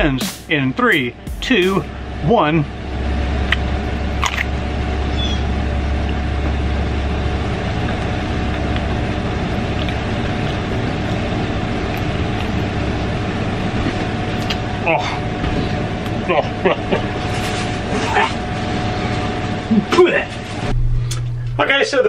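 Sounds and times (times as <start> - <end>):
machine-like hum and rush: 0.0 - 22.0.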